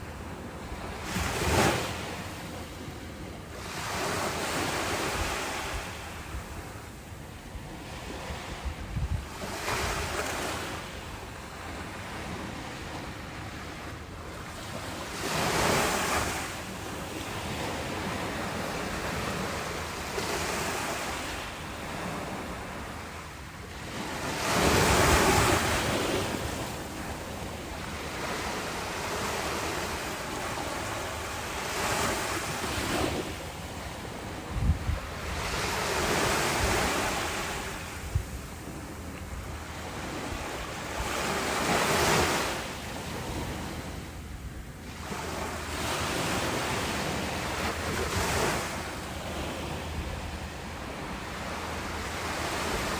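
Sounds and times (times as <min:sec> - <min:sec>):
wind rumbling on microphone: 0:00.0 - 0:23.2, 0:23.8 - 0:52.9
ocean waves washing ashore: 0:00.0 - 0:52.9.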